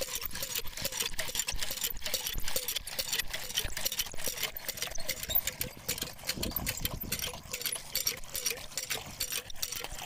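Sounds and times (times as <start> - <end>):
water gushing into plastic bucket: 0.0 - 10.0.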